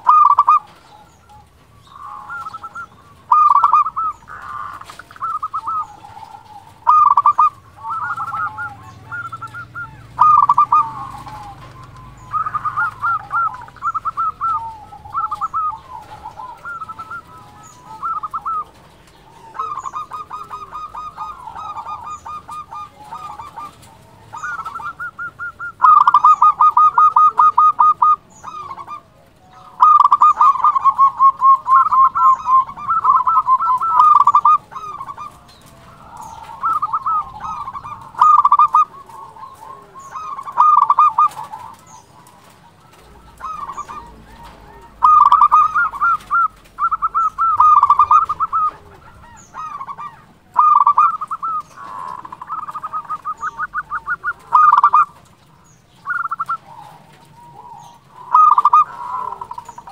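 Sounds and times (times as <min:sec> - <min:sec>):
dove cooing rattling notes: 0:00.0 - 0:59.9.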